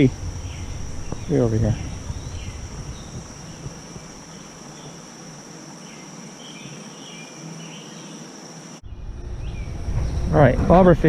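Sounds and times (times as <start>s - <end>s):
faint bird chirps: 0.0s - 9.9s
insects trilling: 0.0s - 11.0s.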